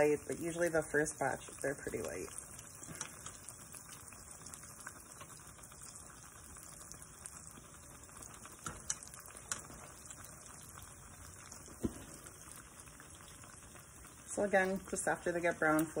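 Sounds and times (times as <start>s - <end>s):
dough sizzling in hot oil: 0.0s - 16.0s.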